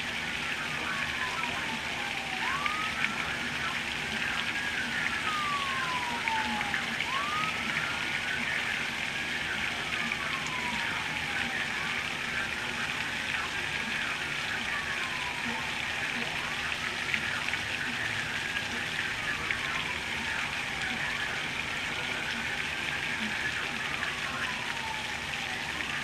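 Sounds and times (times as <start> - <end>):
torrential rain pouring: 0.0 - 26.0
wailing emergency siren: 0.0 - 26.0.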